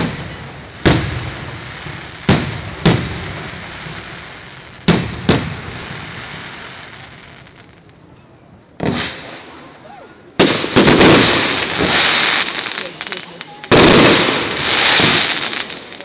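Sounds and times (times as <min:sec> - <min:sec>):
fireworks bursting with echo: 0:00.0 - 0:08.0, 0:08.8 - 0:16.0.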